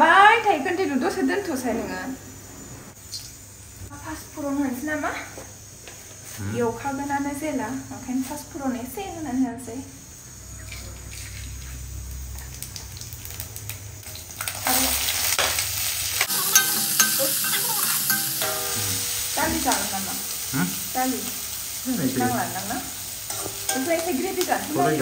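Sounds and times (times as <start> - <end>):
food sizzling in hot oil: 0.2 - 25.0.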